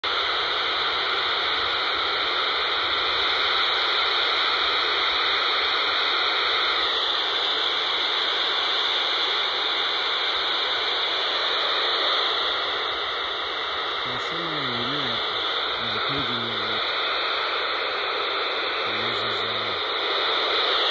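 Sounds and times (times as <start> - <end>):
radio static hiss: 0.0 - 20.9.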